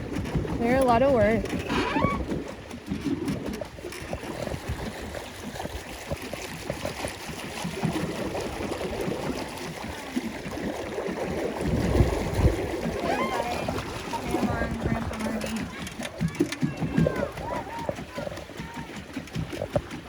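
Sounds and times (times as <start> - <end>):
water splashing around paddle boat: 0.0 - 20.0.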